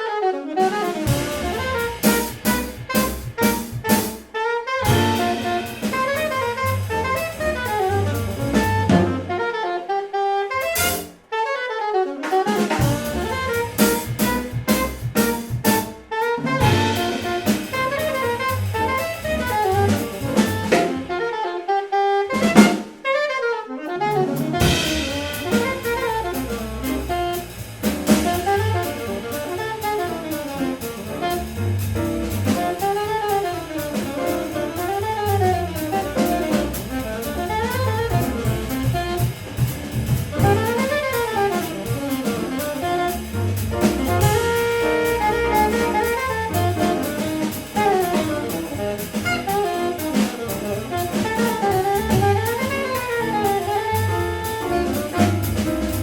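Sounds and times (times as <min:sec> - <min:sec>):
piano: 0:00.0 - 0:56.0
saxophone: 0:00.0 - 0:56.0
drum kit: 0:00.4 - 0:09.6, 0:10.5 - 0:11.4, 0:12.2 - 0:56.0
bass: 0:00.6 - 0:09.5, 0:10.6 - 0:11.2, 0:12.4 - 0:21.3, 0:22.2 - 0:23.0, 0:23.9 - 0:56.0
sharp drum hit: 0:00.9 - 0:09.4, 0:10.6 - 0:11.1, 0:12.5 - 0:21.2, 0:22.4 - 0:23.0, 0:24.3 - 0:56.0.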